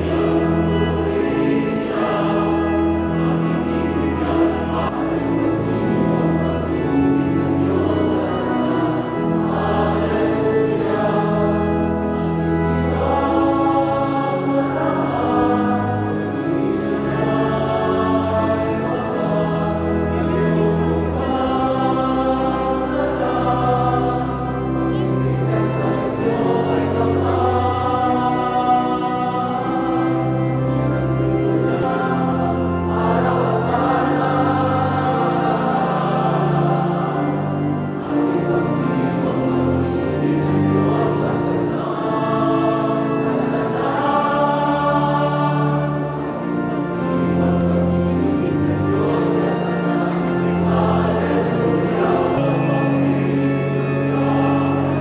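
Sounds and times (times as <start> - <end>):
choir singing a hymn: 0.0 - 55.0
long held accompanying notes: 0.0 - 55.0.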